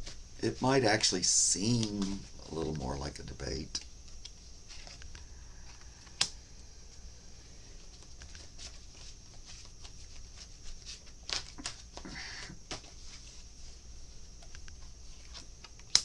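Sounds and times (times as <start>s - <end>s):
cards rustling: 0.0s - 16.0s.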